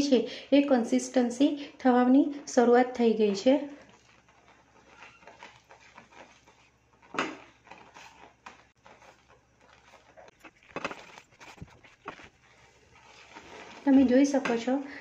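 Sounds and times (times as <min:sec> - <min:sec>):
spatula scraping jam in pan: 0:02.5 - 0:15.0.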